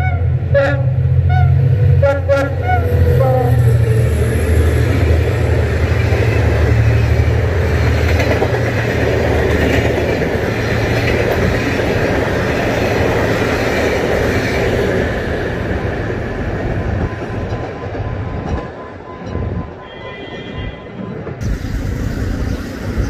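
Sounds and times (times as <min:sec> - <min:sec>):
diesel locomotive engine drone: 0:00.0 - 0:23.0
train wheels rattling on rails: 0:02.8 - 0:23.0.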